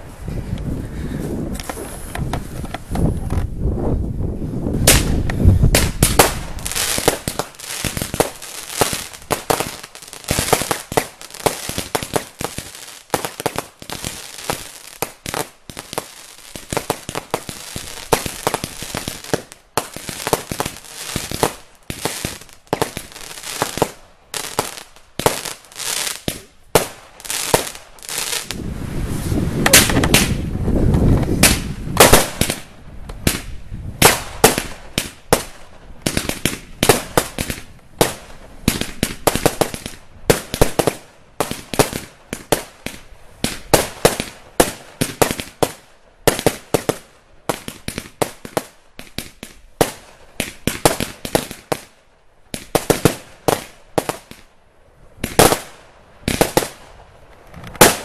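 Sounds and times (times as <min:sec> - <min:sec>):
fireworks bangs and crackling: 0:01.4 - 0:03.6, 0:04.3 - 0:54.5, 0:55.1 - 0:58.0.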